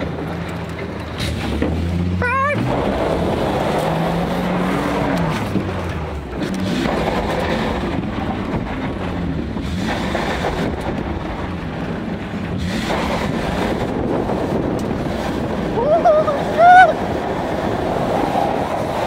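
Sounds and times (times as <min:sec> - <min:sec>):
truck engine under load: 0:00.0 - 0:19.0
truck rattling over rough trail: 0:00.0 - 0:19.0.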